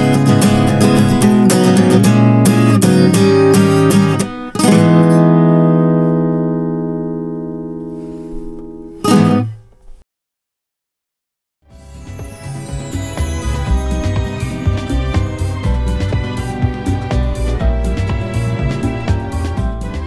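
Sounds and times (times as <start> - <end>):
acoustic guitar strumming: 0.0 - 9.9, 12.0 - 20.0.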